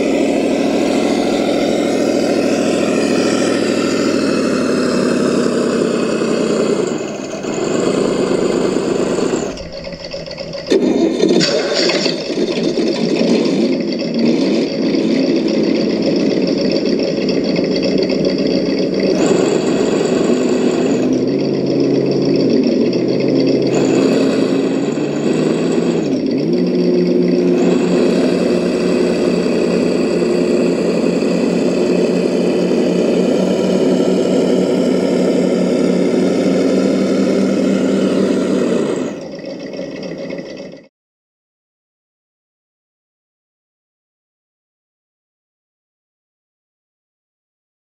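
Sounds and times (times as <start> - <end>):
tracks grinding in sand: 0.0 - 40.7
electric motors whining: 0.0 - 40.9.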